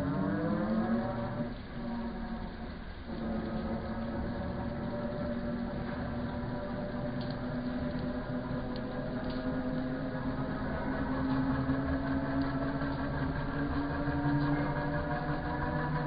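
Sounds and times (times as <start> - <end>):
faint ticks: 0.0 - 16.0
metal lathe humming: 0.0 - 16.0.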